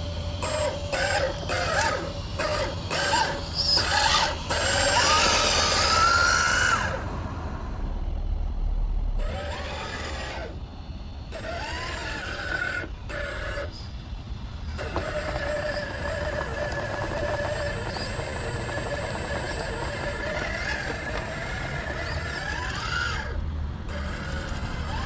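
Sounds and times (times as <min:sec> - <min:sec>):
small electric motor whining: 0:00.0 - 0:07.1, 0:09.1 - 0:25.0.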